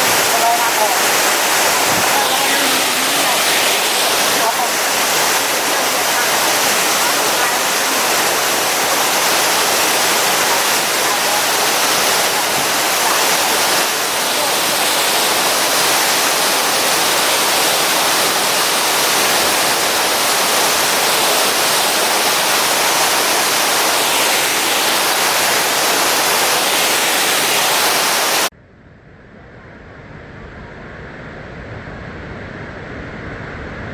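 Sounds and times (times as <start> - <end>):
waterfall rushing: 0.0 - 28.5.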